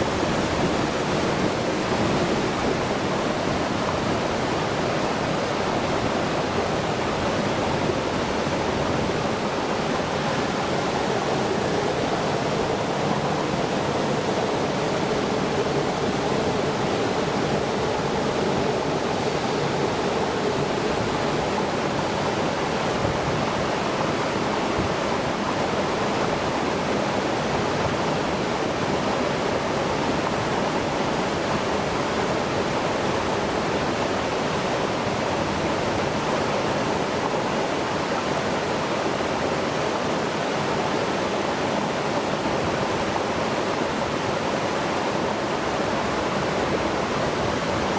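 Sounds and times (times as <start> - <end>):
flowing water rushing: 0.0 - 47.9.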